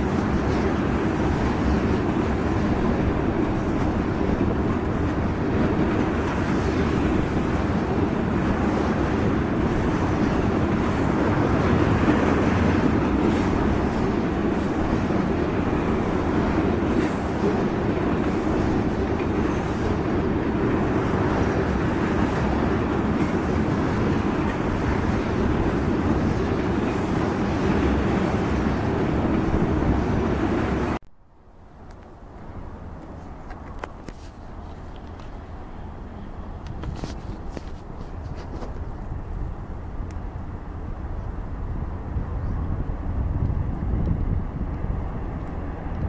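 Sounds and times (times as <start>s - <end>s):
steel wheels rumbling on rail: 0.0s - 31.0s, 32.4s - 46.0s.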